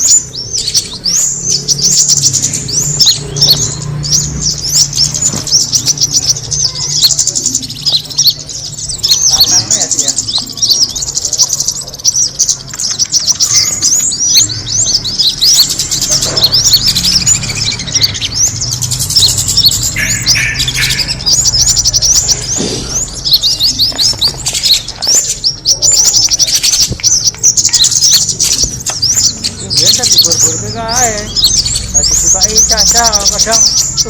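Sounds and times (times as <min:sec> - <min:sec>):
small birds chirping and twittering: 0:00.0 - 0:34.0.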